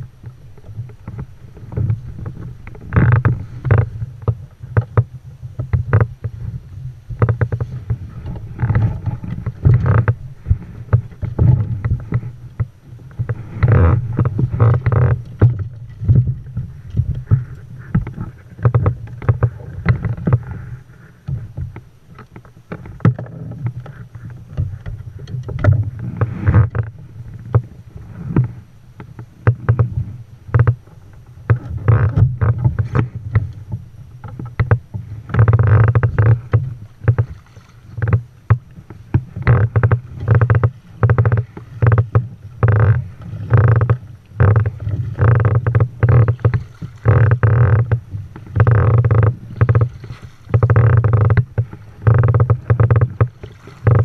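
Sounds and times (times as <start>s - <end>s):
water knocking against hull: 0.0s - 54.0s
water splashing and sloshing: 0.0s - 54.0s.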